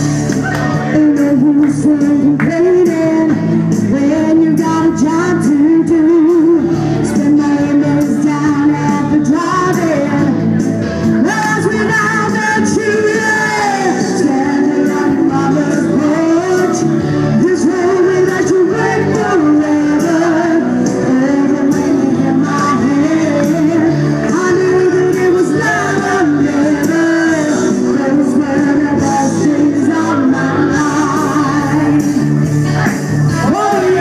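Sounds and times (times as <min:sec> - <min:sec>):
backing music: 0:00.0 - 0:34.0
woman singing into a microphone: 0:00.7 - 0:10.4, 0:11.2 - 0:32.2.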